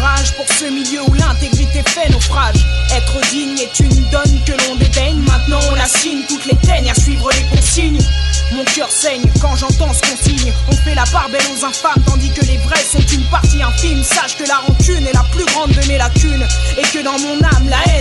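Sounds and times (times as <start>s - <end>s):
heavy bass and drums: 0.0s - 18.0s
rapping over a beat: 0.0s - 18.0s.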